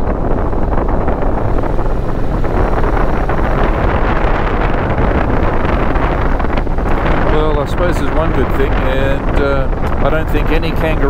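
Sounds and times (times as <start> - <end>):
motorcycle engine: 0.0 - 11.0
wind rushing over microphone: 0.0 - 11.0.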